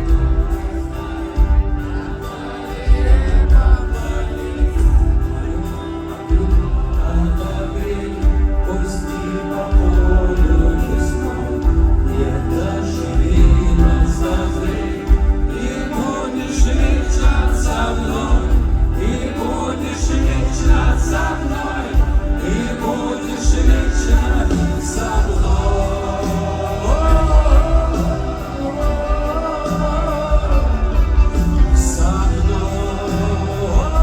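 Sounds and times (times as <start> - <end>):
live rock band: 0.0 - 34.0
many voices singing: 0.0 - 34.0
pulsing bass: 0.0 - 34.0.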